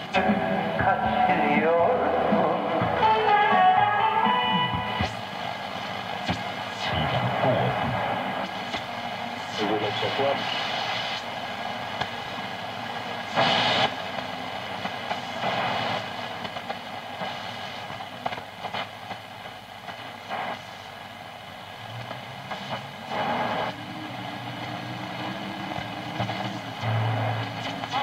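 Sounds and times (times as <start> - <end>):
bursts of radio noise: 0.0 - 21.4, 22.0 - 28.0
radio static hiss and crackling: 0.0 - 28.0.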